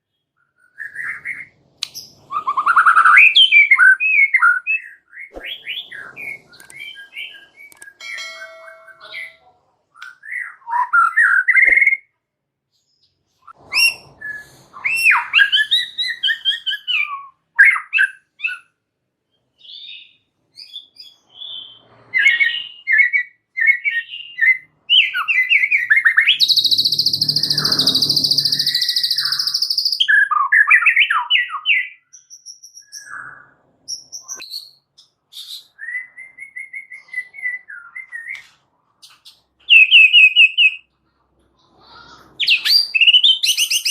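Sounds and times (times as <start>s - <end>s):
bird whistling song: 0.0s - 9.4s, 10.0s - 12.1s, 12.9s - 18.7s, 19.5s - 38.4s, 39.0s - 40.9s, 42.4s - 43.9s.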